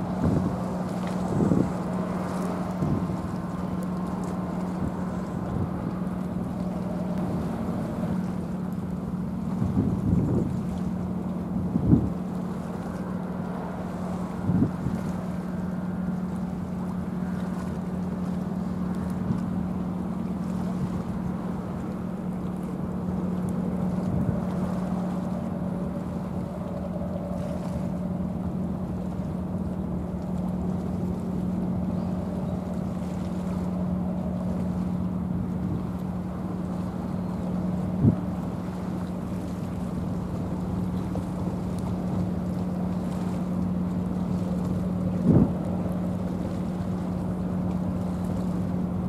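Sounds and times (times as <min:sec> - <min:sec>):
rushing water: 0:00.0 - 0:49.0
ship engine drone: 0:00.0 - 0:49.0
wind: 0:00.0 - 0:49.0.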